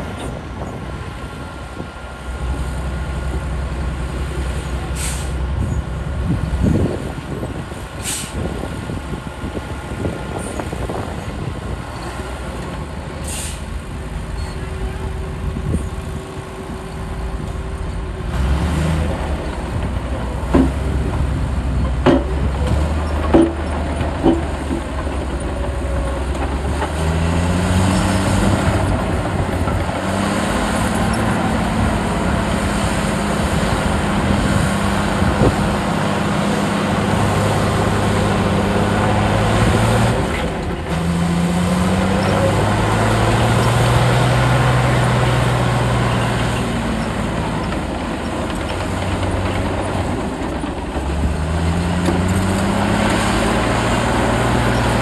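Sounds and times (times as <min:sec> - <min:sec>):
heavy diesel engines revving: 0:00.0 - 0:55.0.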